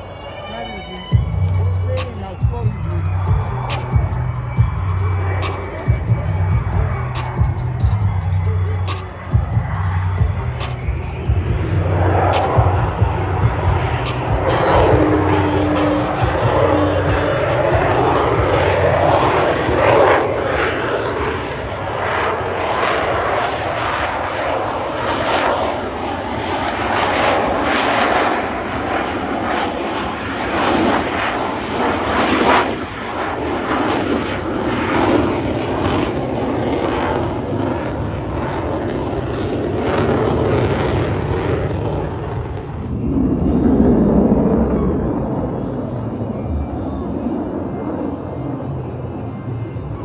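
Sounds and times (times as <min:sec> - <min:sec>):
aircraft engine in flight: 0:00.0 - 0:50.0.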